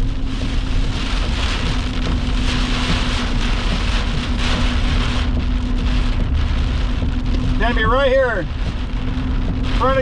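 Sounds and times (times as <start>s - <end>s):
heavy rain on a vehicle: 0.0s - 10.0s
low hum inside vehicle: 0.0s - 10.0s
low rumble: 0.0s - 10.0s.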